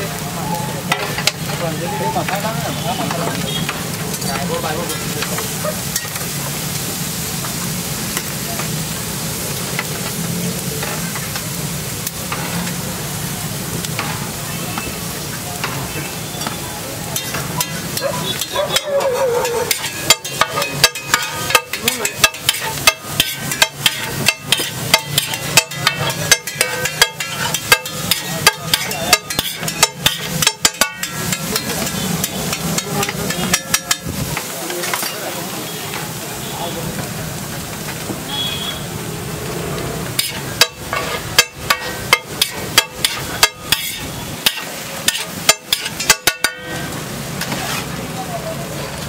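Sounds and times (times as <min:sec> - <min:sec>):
food sizzling on a griddle: 0:00.0 - 0:49.0
spatula striking and scraping griddle: 0:00.8 - 0:06.5, 0:07.4 - 0:08.8, 0:09.6 - 0:12.9, 0:13.8 - 0:14.9, 0:15.6 - 0:36.1, 0:40.0 - 0:48.0.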